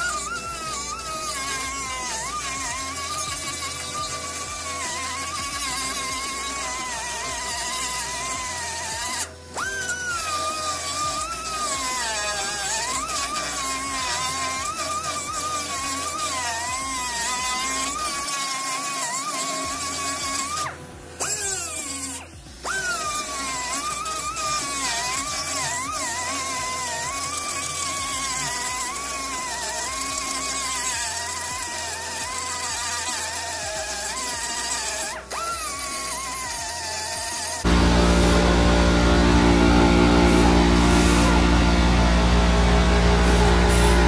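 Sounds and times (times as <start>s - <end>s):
power grinder grinding metal: 0.0s - 44.0s.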